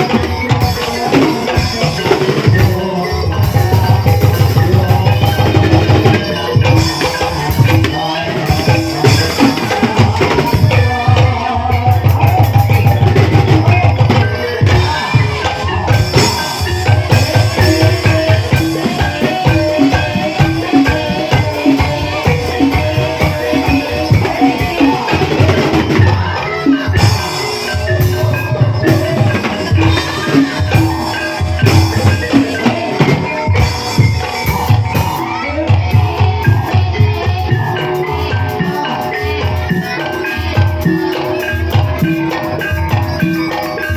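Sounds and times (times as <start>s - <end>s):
hand drums beating fast: 0.0s - 43.9s
struck mallet instruments: 0.0s - 43.9s.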